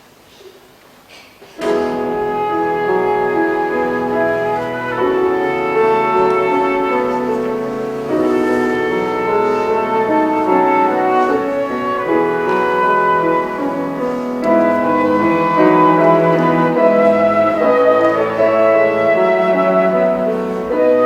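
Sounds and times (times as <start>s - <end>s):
piano: 1.4s - 21.0s
cello: 1.6s - 21.0s
flute: 1.6s - 21.0s.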